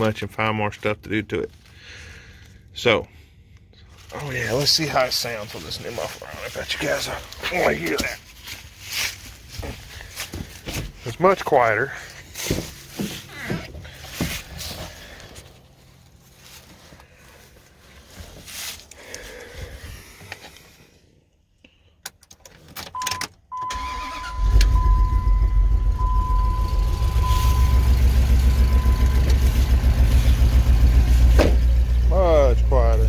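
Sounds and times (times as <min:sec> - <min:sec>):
engine cranking and idling: 0:00.1 - 0:18.2, 0:23.6 - 0:33.0.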